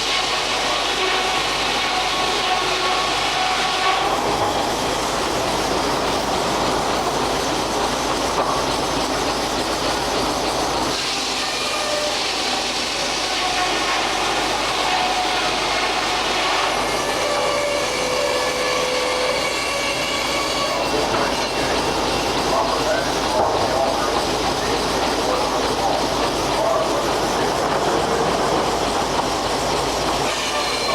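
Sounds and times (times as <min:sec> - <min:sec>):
sawmill machinery clattering: 0:00.0 - 0:30.9.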